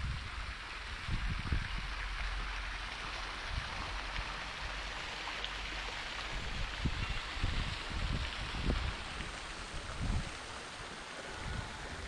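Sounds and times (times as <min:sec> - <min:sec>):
fountains splashing: 0:00.0 - 0:12.0.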